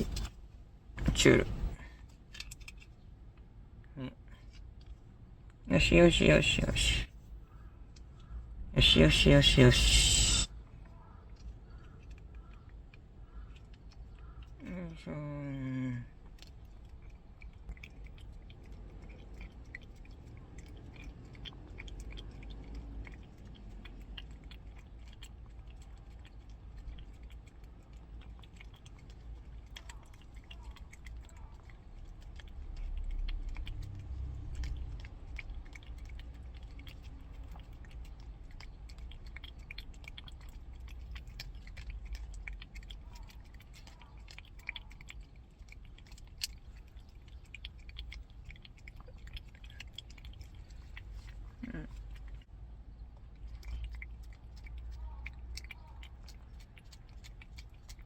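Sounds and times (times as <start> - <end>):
cat chewing food: 0.0 - 14.9, 16.0 - 58.0.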